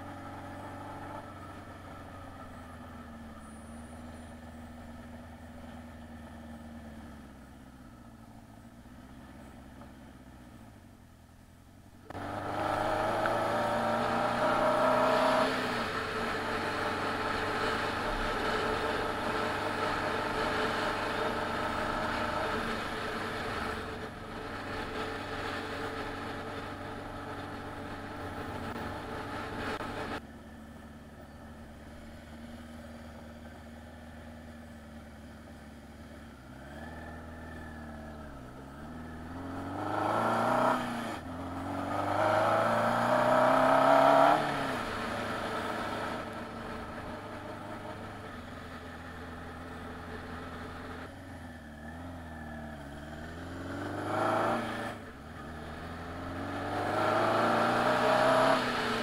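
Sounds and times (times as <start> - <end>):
motorcycle engine accelerating: 0.0 - 10.6, 12.1 - 59.0.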